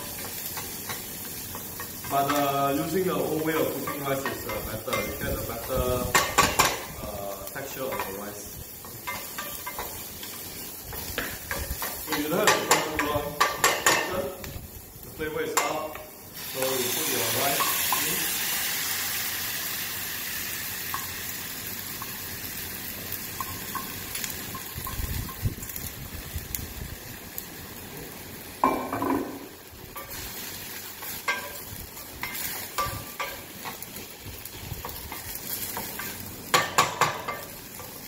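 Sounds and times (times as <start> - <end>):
rice sizzling in oil: 0.0 - 38.0.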